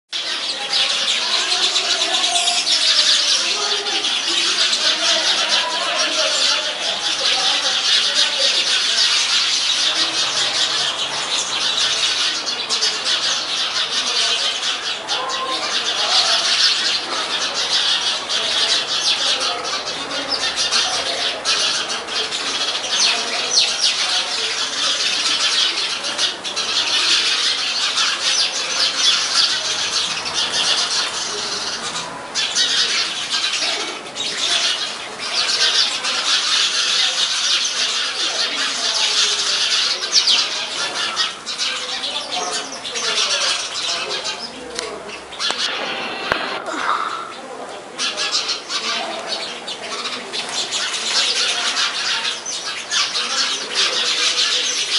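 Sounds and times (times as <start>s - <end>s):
flock of birds chattering: 0.1s - 54.9s.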